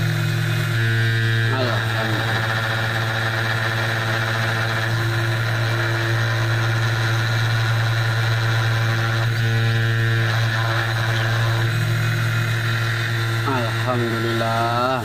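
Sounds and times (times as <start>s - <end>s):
spindle motor humming with whine: 0.0s - 15.0s.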